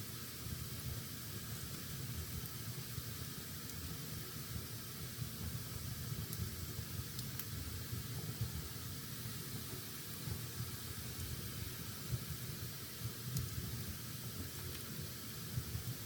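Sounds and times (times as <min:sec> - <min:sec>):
fire burning in fireplace: 0:00.0 - 0:16.0.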